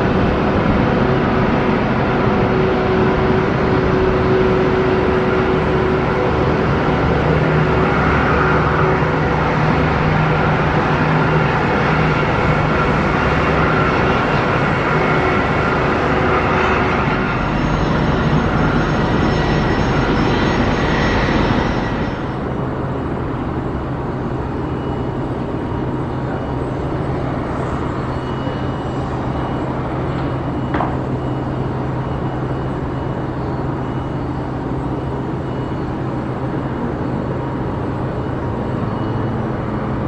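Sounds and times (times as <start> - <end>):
faint high whining tones: 0.0 - 40.0
jet turbine noise: 0.0 - 40.0.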